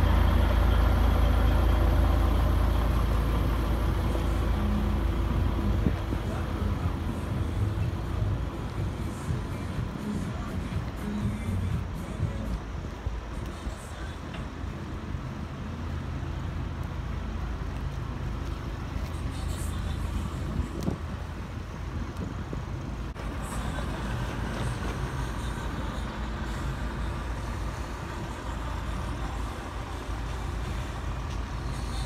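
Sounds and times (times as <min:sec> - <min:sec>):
truck diesel engines rumbling: 0:00.0 - 0:32.0.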